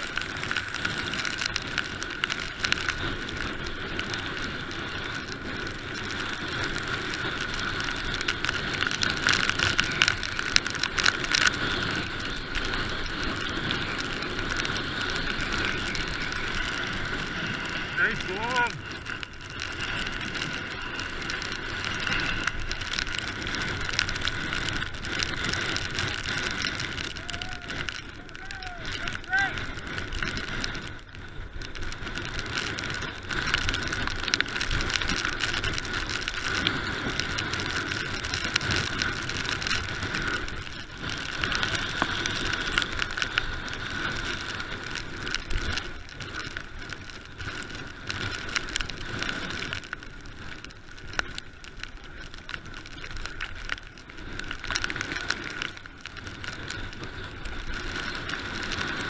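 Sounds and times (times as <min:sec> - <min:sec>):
bike rattling and clicking: 0:00.0 - 0:59.0
bike tyres crunching on rocks: 0:00.0 - 0:59.0
steady rushing noise: 0:00.0 - 0:59.0.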